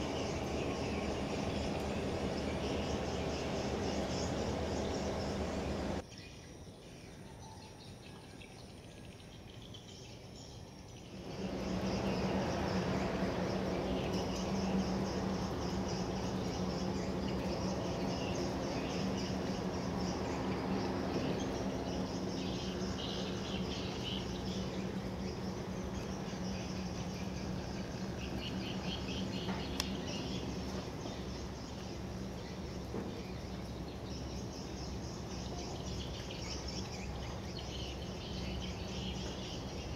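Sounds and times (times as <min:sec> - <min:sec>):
low drone of passing ship: 0:00.0 - 0:06.0, 0:11.0 - 0:39.9
birds and insects chirping: 0:00.0 - 0:39.9.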